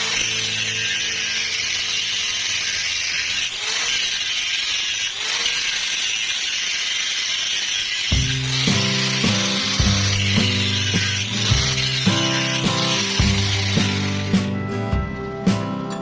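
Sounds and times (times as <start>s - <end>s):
angle grinder grinding: 0.0s - 16.0s.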